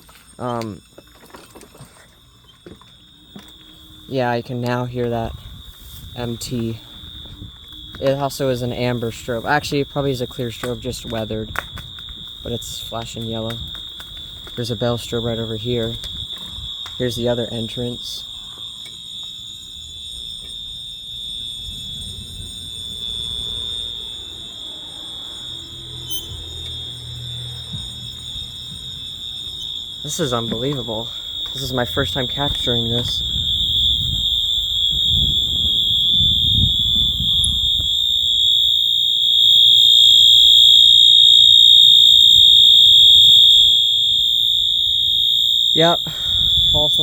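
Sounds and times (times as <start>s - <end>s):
fire alarm ringing: 0.0s - 47.0s.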